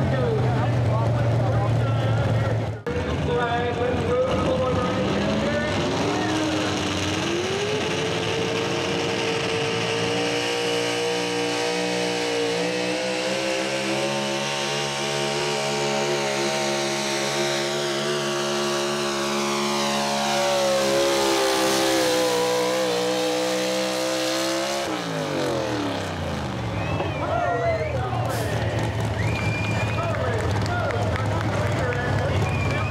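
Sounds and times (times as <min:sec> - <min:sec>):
truck engine running under load: 0:00.0 - 0:32.9.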